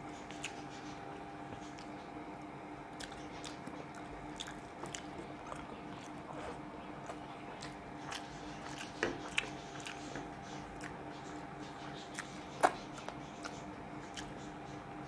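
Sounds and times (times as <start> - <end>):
faint steady hum: 0.0 - 15.0
wet chewing and lip smacks: 0.1 - 2.1, 2.9 - 14.6.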